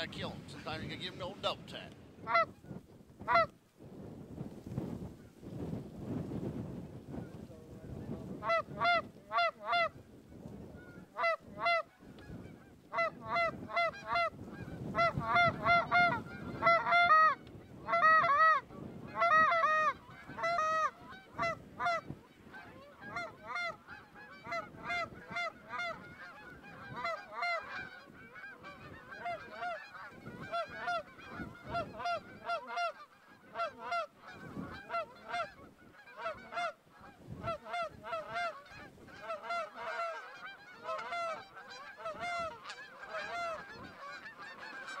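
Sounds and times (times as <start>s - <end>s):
geese honking: 0.0s - 3.5s, 8.0s - 45.0s.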